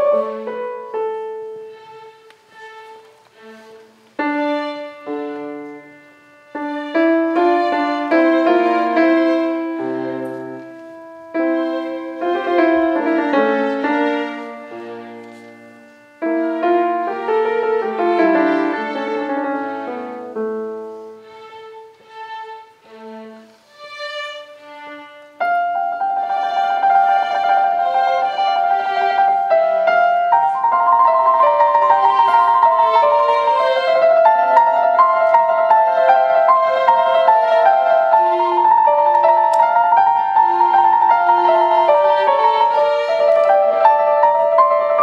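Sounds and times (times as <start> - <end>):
piano and strings playing: 0.0 - 45.0.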